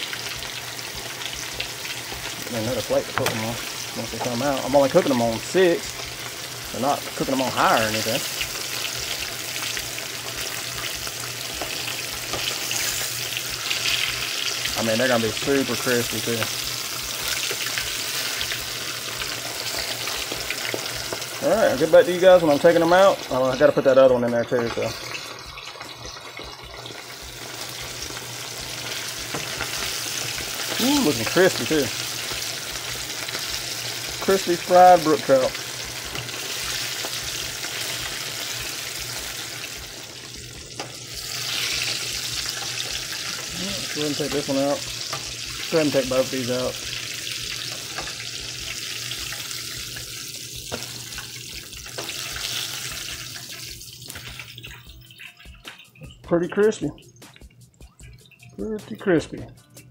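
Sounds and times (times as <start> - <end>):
fish frying in hot oil: 0.0 - 59.2.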